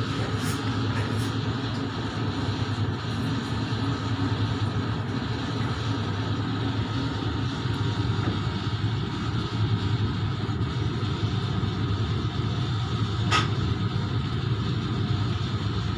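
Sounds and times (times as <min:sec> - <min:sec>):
kitchen machinery humming: 0:00.0 - 0:15.9.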